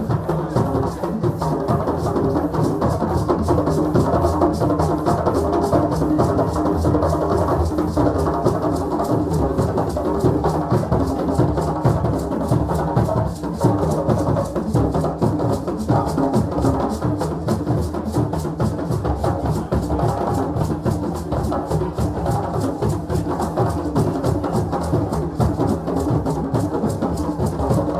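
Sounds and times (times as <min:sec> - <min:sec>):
drum ensemble playing fast rhythm: 0:00.0 - 0:27.9.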